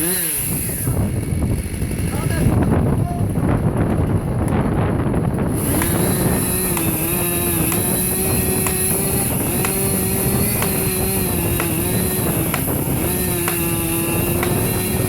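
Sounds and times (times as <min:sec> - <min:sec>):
chainsaw running at high revs: 0:00.0 - 0:15.0.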